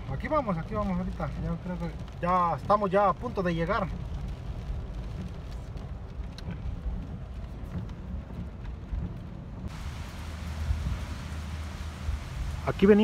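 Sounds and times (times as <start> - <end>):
car driving in rain: 0.0 - 13.0
rain falling outdoors: 0.0 - 13.0.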